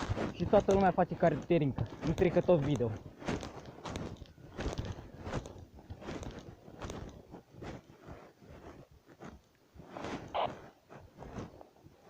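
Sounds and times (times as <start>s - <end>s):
footsteps crunching through undergrowth: 0.0s - 12.0s.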